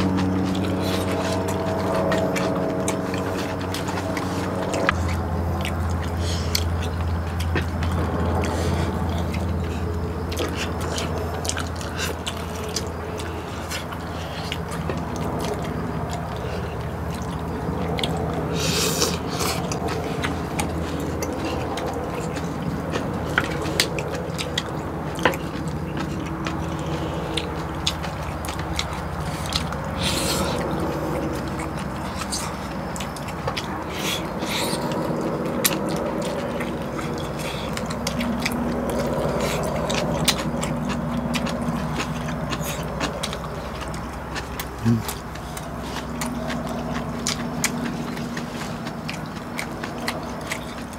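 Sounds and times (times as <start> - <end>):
loud slurps: 0.0 - 6.9, 7.7 - 50.9
chewing and sucking meat: 0.0 - 50.9
steady low hum: 0.0 - 50.9.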